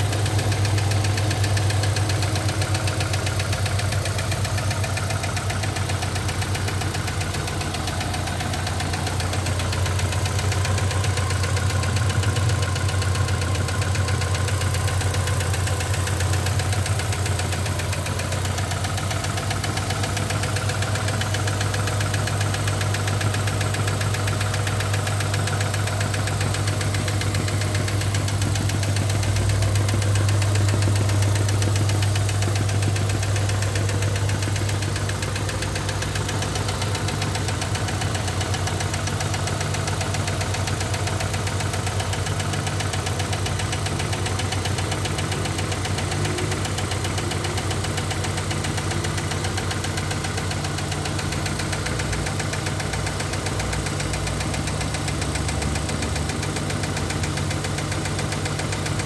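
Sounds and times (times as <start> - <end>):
car engine idling: 0.0 - 59.0
rapid valvetrain ticking: 0.0 - 59.0.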